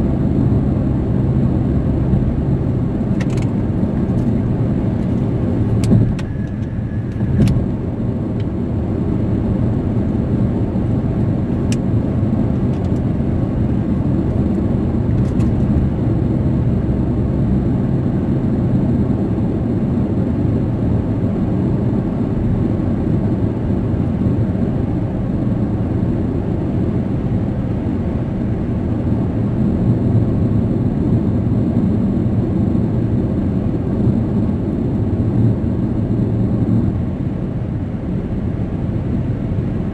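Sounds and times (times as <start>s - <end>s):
tyre and engine rumble in car: 0.0s - 39.9s.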